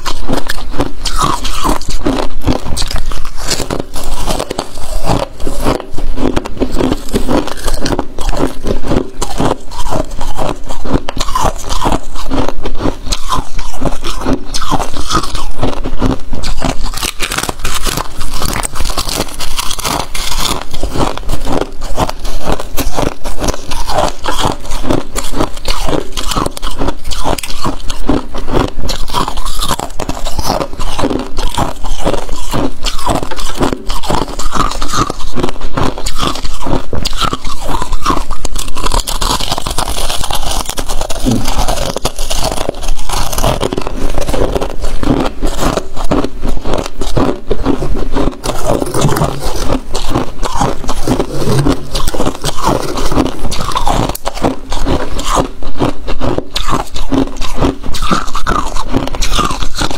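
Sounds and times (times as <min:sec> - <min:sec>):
crisp crunches of chewing frost: 0:00.0 - 0:59.9.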